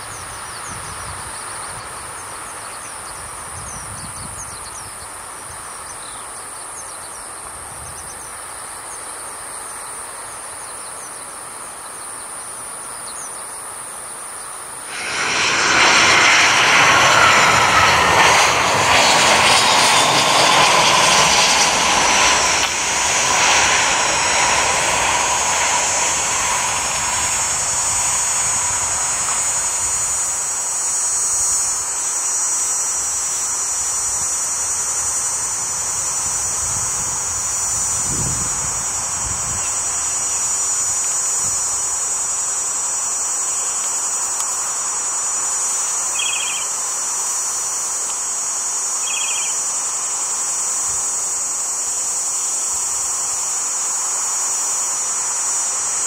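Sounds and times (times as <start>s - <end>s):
jet airliner engines roaring: 0.0s - 56.0s.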